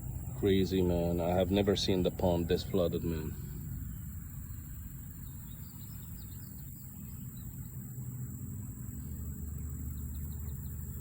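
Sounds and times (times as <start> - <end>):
faint chirps: 0.0 - 11.0
high insect buzz: 0.0 - 11.0
low engine rumble: 0.0 - 11.0.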